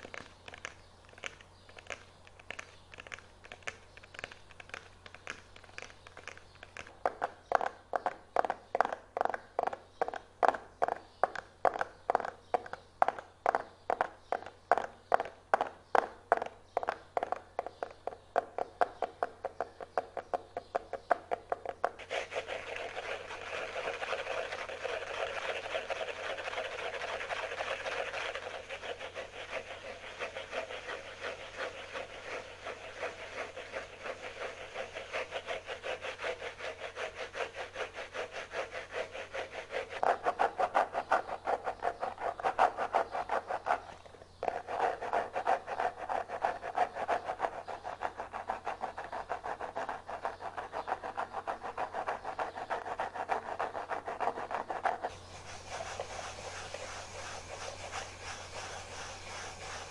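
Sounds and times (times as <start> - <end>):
scratching on a hard surface: 0.0 - 59.9.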